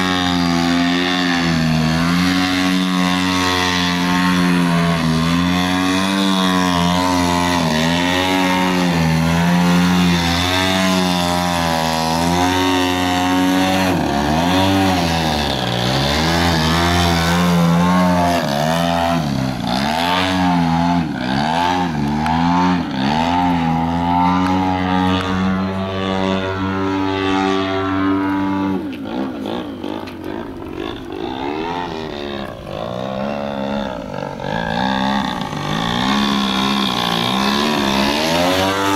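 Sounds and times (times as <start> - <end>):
model plane engine and propeller: 0.0 - 38.9.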